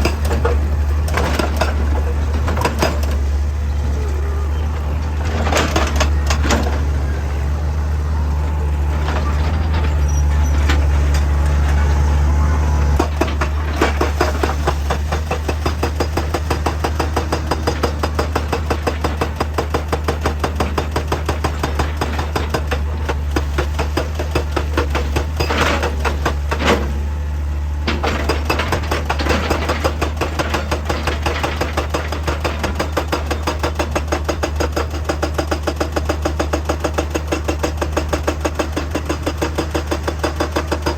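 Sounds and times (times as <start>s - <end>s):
diesel engine hum: 0.0s - 33.0s.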